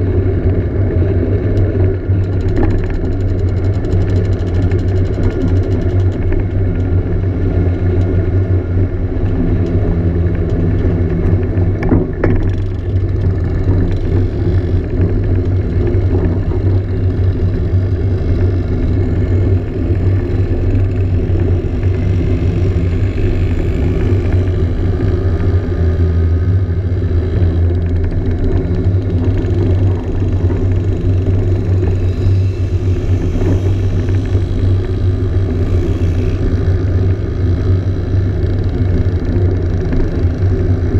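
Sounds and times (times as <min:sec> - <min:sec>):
scooter engine droning: 0:00.0 - 0:40.9.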